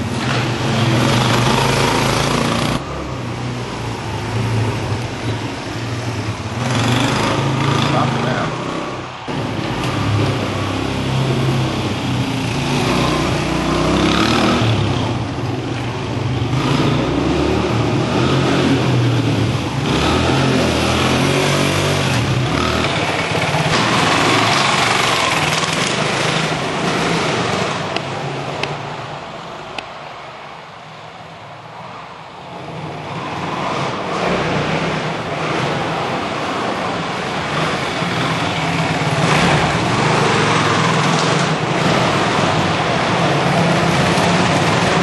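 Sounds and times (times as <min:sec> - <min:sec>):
motorcycle engines revving: 0:00.0 - 0:29.2, 0:32.5 - 0:45.0.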